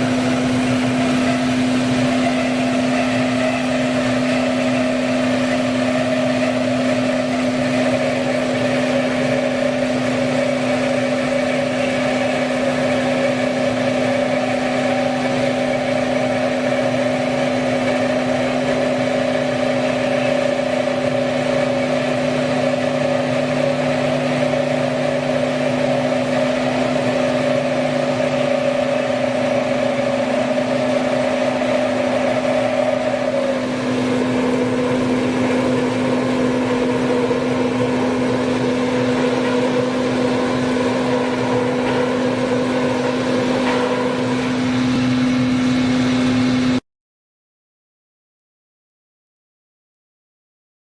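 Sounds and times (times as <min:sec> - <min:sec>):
machine hum with whine: 0:00.0 - 0:46.8.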